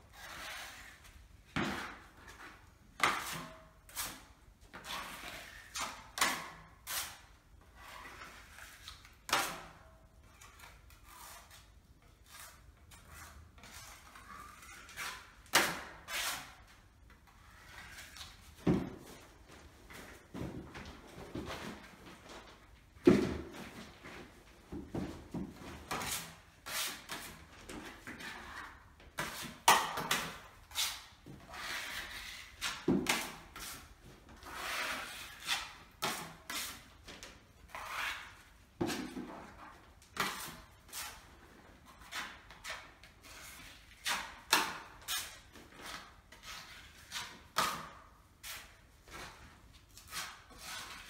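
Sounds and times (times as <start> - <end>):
putty knife scraping filler: 0.1 - 19.0, 25.7 - 51.0.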